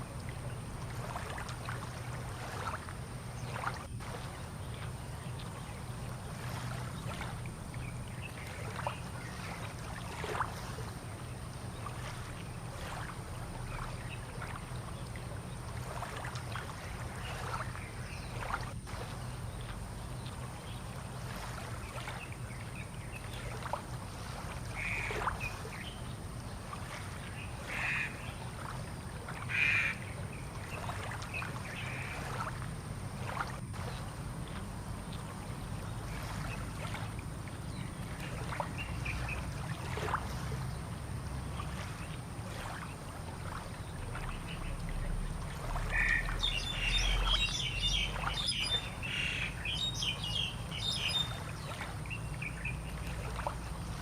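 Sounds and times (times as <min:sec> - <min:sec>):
steady low hum: 0:00.0 - 0:54.0
water lapping and splashing: 0:00.0 - 0:54.0.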